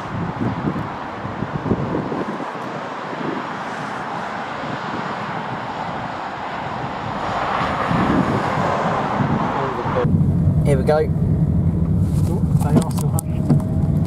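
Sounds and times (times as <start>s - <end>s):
motor vehicle noise: 0.0s - 14.0s
wind buffeting microphone: 0.0s - 14.0s.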